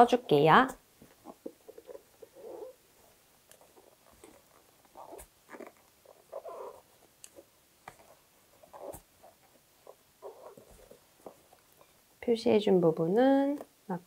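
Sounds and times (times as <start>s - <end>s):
yarn rustling through stitches: 0.0s - 12.2s.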